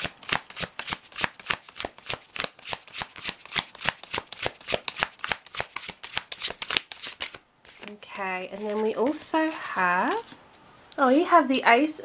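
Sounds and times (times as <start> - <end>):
playing cards being shuffled: 0.3 - 10.4.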